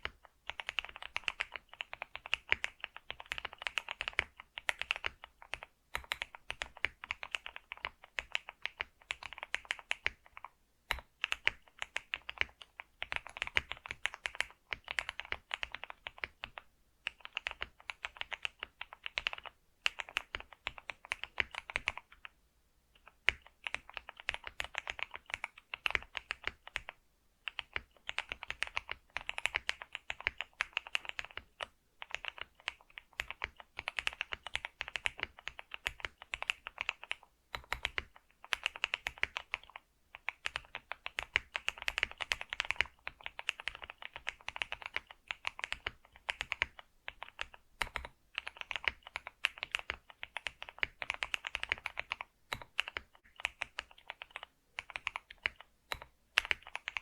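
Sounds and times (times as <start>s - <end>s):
fast typing on a keyboard: 0.0s - 22.4s, 23.0s - 57.0s.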